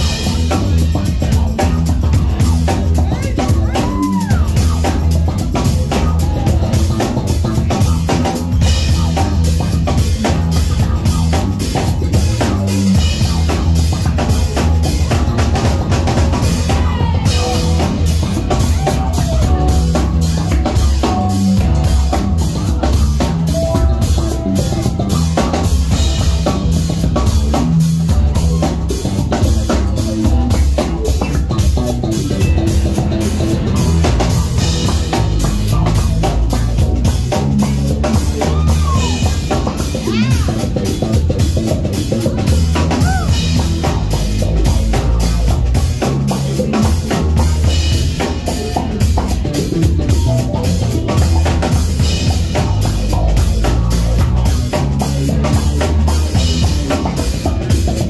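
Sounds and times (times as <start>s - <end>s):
drum kit groove: 0.0s - 58.0s
electric bass: 0.0s - 58.0s.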